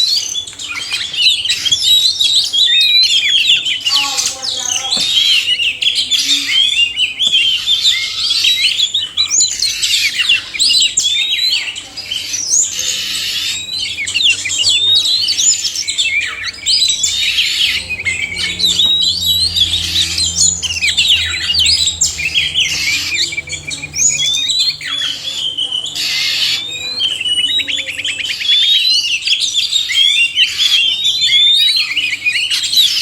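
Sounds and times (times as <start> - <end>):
birds singing: 0.0 - 33.0.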